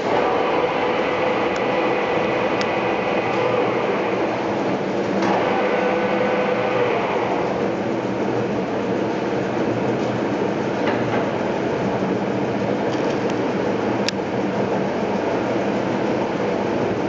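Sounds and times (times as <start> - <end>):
lathe mechanical drone: 0.0 - 17.0.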